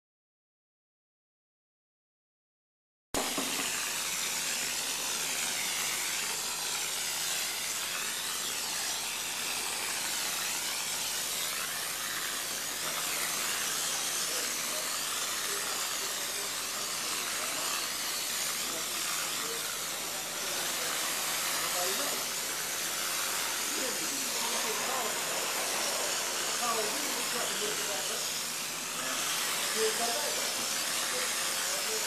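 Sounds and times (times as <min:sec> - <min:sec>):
spray gun hissing: 0:03.2 - 0:32.0.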